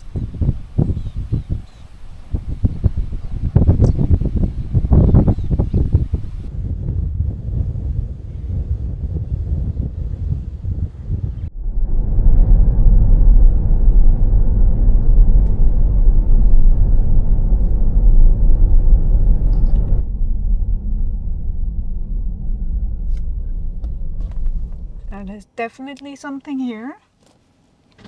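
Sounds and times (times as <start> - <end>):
car driving low rumble: 0.0 - 25.6.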